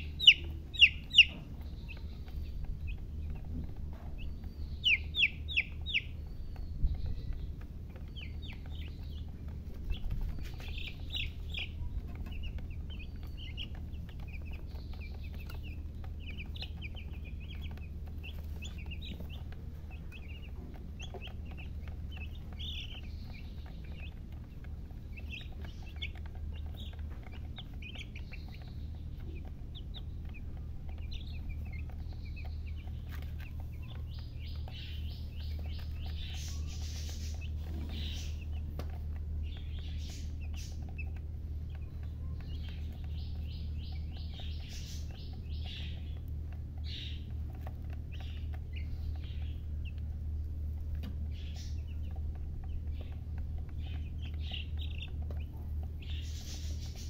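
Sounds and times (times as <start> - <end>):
baby chicks peeping: 0.0 - 57.0
steady low hum: 0.0 - 57.0.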